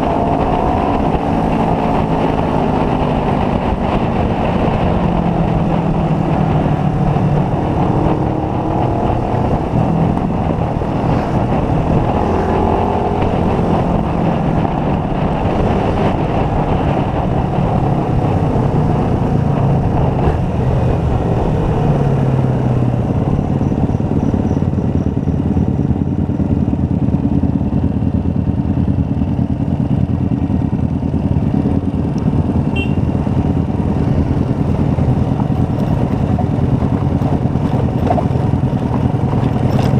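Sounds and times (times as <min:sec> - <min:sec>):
motorcycle engine running: 0:00.0 - 0:39.9
road noise rushing: 0:00.0 - 0:39.9.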